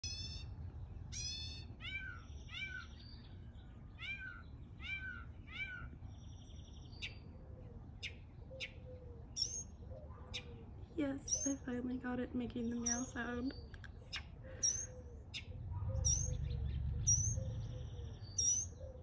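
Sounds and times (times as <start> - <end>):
mockingbird singing: 0.0 - 19.0.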